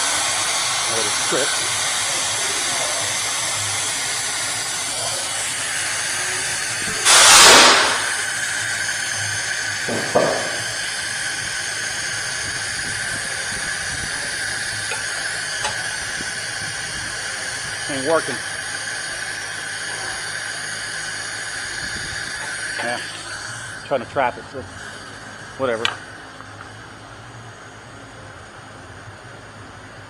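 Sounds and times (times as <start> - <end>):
compressed air blasting: 0.0 - 24.0, 24.7 - 26.2
steady hiss: 0.0 - 27.0.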